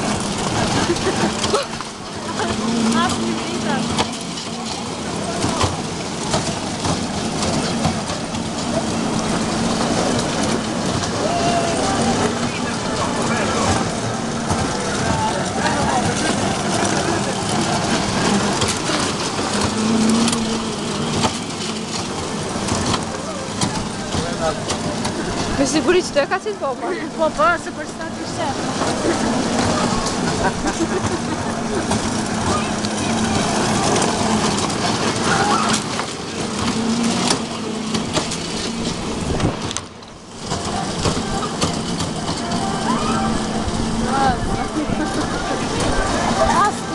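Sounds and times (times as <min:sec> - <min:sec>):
toy trucks rumbling on metal track: 0:00.0 - 0:46.9.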